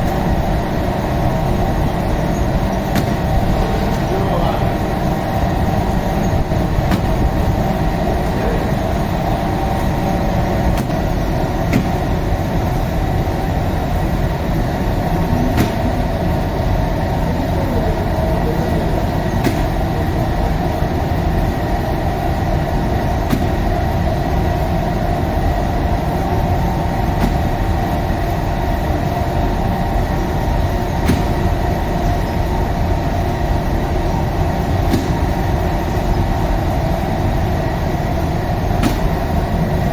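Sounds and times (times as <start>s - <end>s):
machinery rumble and hum: 0.0s - 39.9s.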